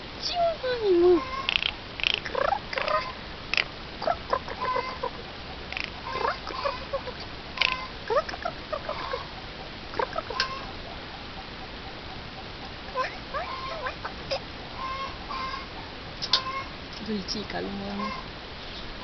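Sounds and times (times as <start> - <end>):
jay clucking and chirping: 0.9 - 18.3.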